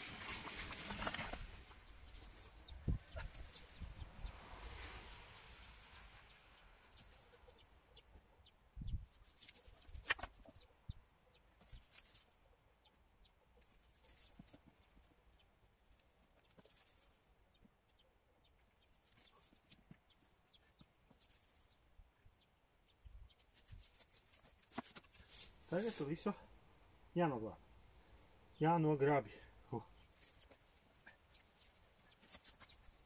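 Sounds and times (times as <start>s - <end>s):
faint rustling of soil: 0.0s - 33.0s.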